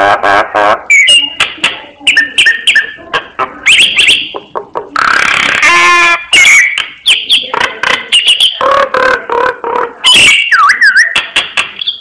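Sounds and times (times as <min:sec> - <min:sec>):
harsh grating bird call: 0:00.0 - 0:01.4, 0:02.1 - 0:11.2
myna whistling and chattering: 0:00.9 - 0:12.0.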